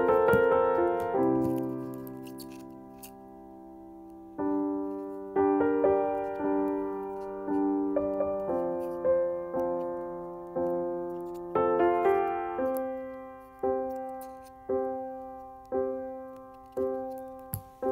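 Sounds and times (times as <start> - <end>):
gentle piano music: 0.0 - 17.9.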